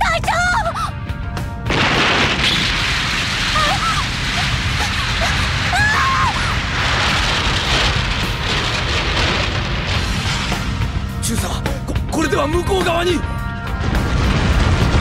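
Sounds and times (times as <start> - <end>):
rumble of explosions: 0.2 - 15.0
crumbling rubble: 1.6 - 15.0.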